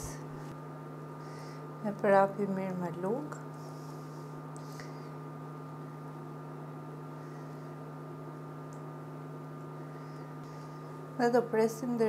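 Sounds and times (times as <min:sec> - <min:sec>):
fan-like hiss: 0:00.0 - 0:12.0
induction hob electrical hum: 0:00.0 - 0:12.0.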